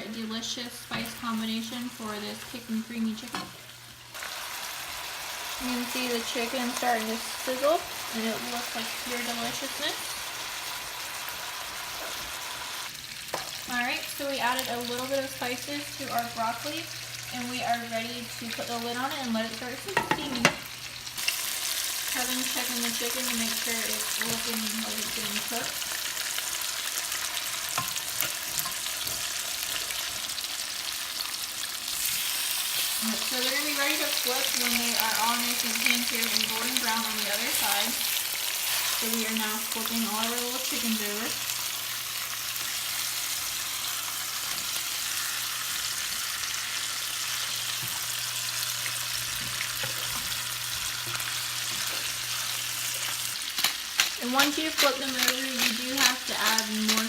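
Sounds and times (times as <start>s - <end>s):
chicken sizzling in a pan: 0.0s - 57.0s.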